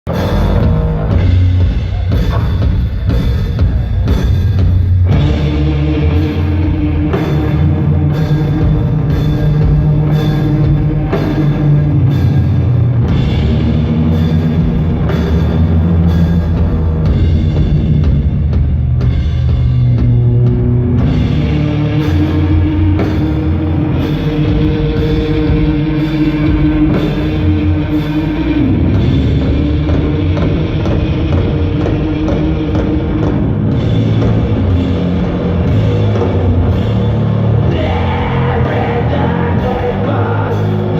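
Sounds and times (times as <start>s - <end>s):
doom metal band playing live: 0.1s - 40.9s
drum and cymbal hits: 0.1s - 40.9s.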